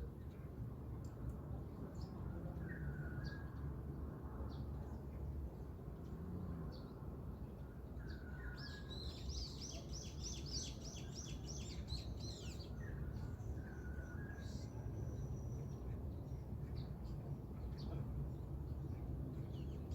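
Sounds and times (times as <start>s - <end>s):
small birds singing: 0.1s - 19.9s.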